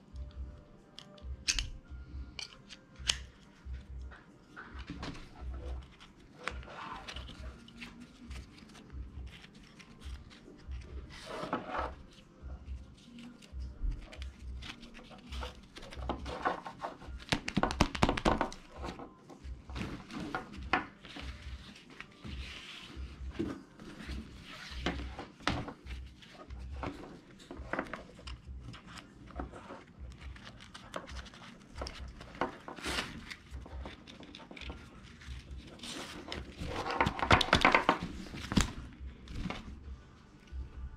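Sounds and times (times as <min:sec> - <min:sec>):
nylon strap rustling and scraping: 0:04.5 - 0:17.3, 0:18.3 - 0:39.8.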